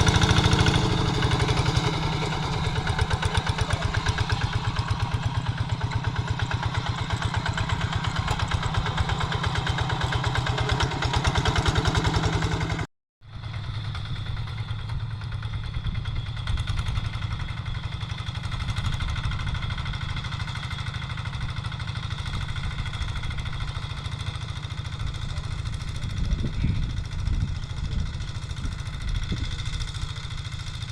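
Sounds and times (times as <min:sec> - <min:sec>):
diesel engine chugging: 0:00.0 - 0:30.9.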